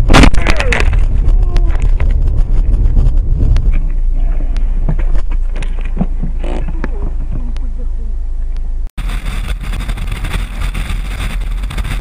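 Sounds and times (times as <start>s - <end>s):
heavy low car rumble: 0.8s - 12.0s.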